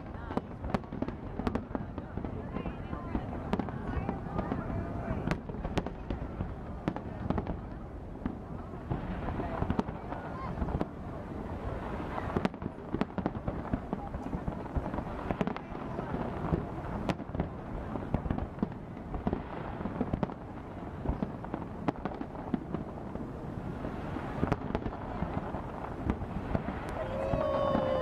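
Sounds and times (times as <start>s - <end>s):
murmur of crowd voices: 0.0s - 28.0s.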